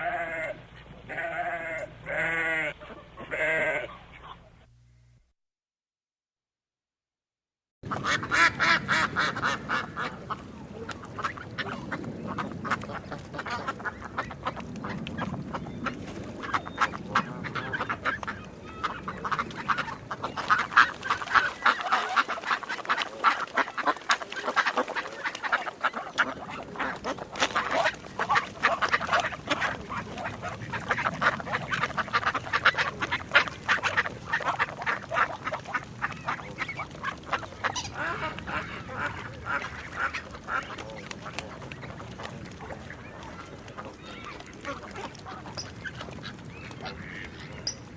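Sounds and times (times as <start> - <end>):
ducks quacking: 0.0 - 4.7, 7.8 - 47.9.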